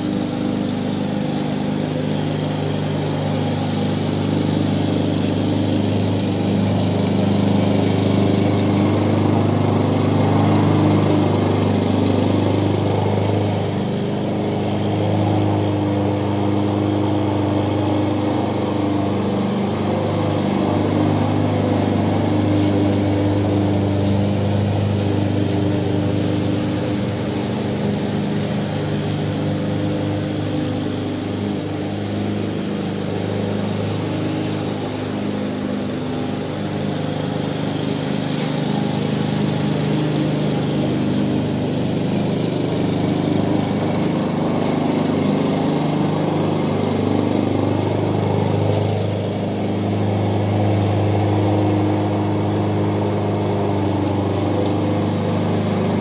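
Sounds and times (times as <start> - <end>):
lawn mower engine running: 0.0 - 56.0
mower blade whirring: 0.0 - 56.0.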